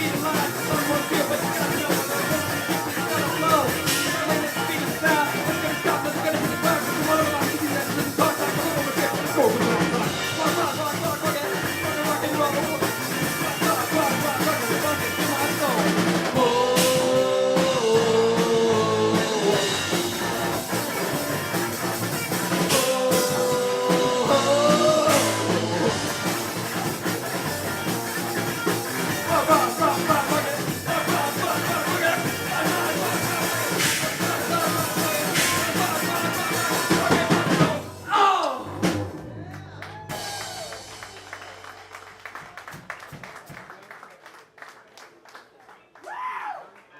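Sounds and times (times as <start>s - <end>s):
electric guitar: 0.0s - 38.0s
bass guitar: 0.0s - 43.0s
drum kit: 0.0s - 43.7s.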